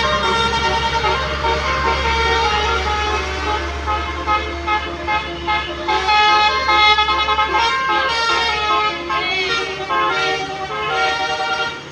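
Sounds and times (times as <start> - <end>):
low engine hum: 0.0 - 11.9
multi-tone musical bus horn: 0.0 - 11.9.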